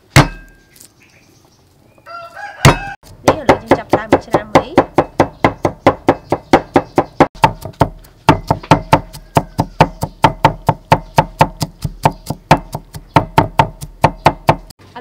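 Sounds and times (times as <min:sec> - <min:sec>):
cleaver knocking on wooden board: 0:02.7 - 0:14.7.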